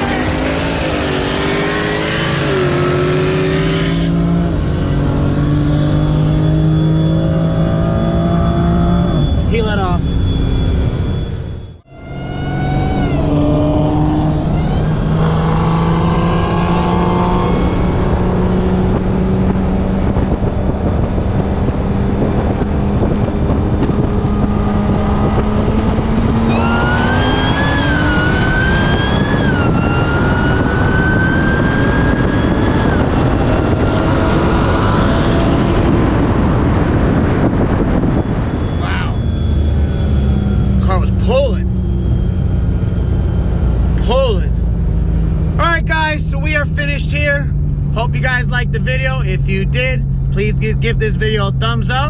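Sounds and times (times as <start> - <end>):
high whine: 0.0 - 19.3, 23.8 - 52.0
car engine accelerating hard: 0.0 - 52.0.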